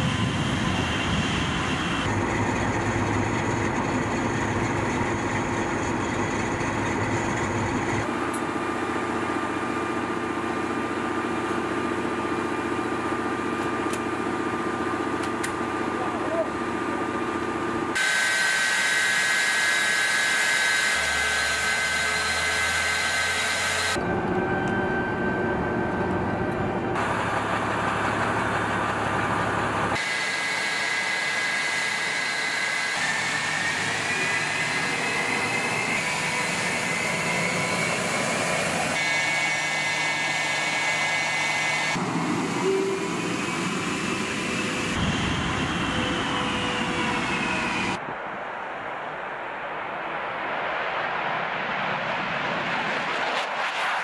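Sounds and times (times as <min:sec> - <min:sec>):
jet engine whine and roar: 0:00.0 - 0:54.0.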